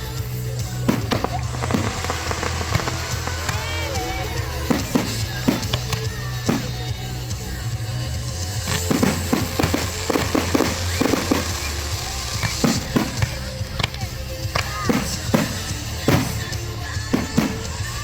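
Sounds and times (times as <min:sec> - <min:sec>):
music with low bass: 0:00.0 - 0:18.0
fireworks shells bursting: 0:00.5 - 0:07.2, 0:08.6 - 0:18.0.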